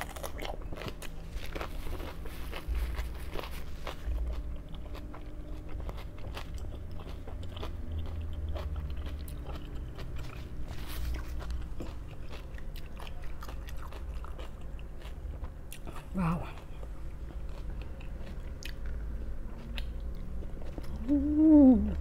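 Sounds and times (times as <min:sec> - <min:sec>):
person chewing crunchy vegetables: 0:00.0 - 0:22.0.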